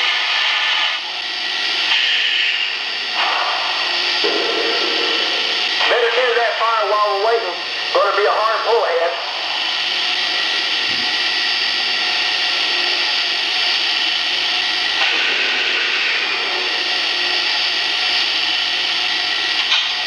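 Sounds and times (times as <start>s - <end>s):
model steam locomotive hiss: 0.0s - 20.0s.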